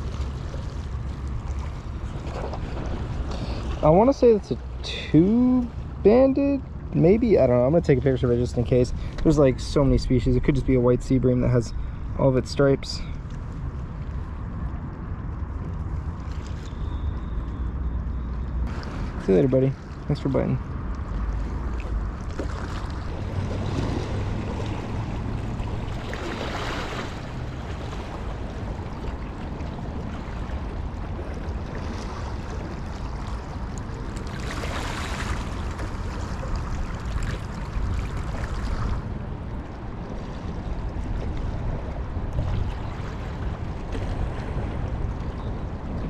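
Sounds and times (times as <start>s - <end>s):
wind rumbling on microphone: 0.0s - 46.0s.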